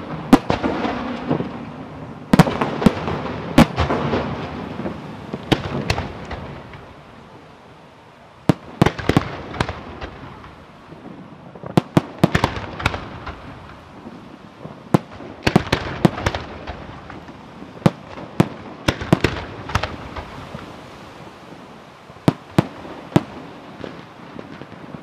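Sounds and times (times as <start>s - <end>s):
fireworks bursting with bangs: 0.0s - 7.6s, 8.4s - 25.0s.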